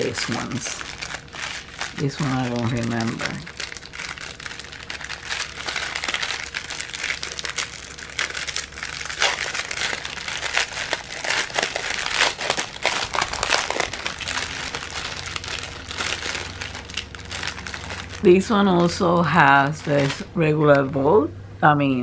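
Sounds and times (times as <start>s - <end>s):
plastic bags crinkling: 0.0s - 20.9s.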